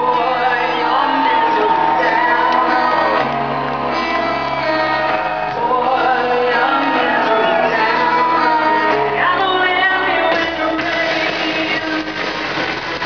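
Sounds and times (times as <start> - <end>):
rock band playing live: 0.0 - 13.0
woman singing: 0.0 - 13.0.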